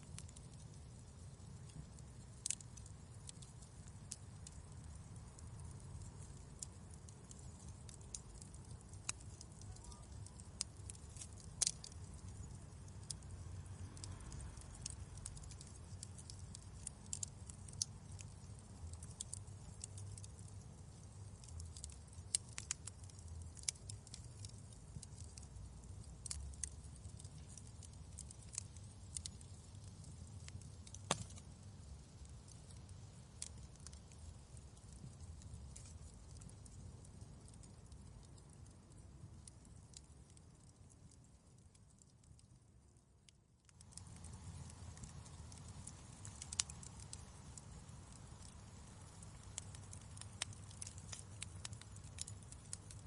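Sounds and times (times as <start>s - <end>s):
low rumble of burning: 0.0s - 53.0s
wood fire popping and snapping: 0.0s - 53.0s.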